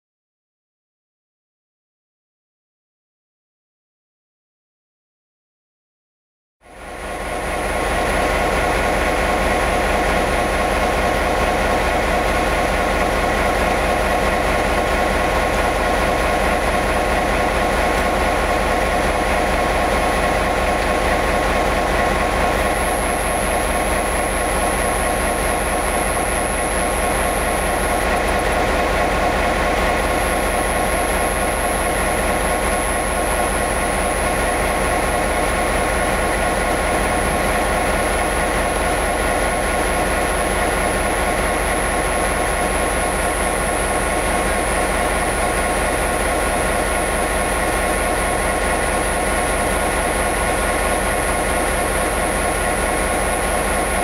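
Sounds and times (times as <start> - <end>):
diesel locomotive engine rumbling: 6.8 - 54.0.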